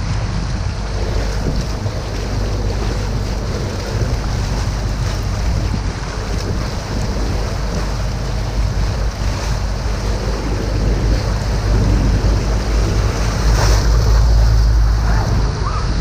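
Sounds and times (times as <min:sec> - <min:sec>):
boat motor rumbling: 0:00.0 - 0:16.0
water rushing along hull: 0:00.0 - 0:16.0
wind buffeting microphone: 0:00.0 - 0:16.0.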